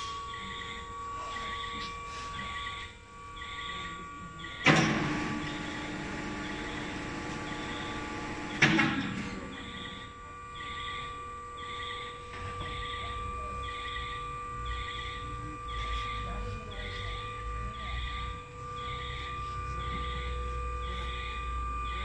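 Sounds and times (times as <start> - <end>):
hydraulic pump whine: 0.0 - 22.0.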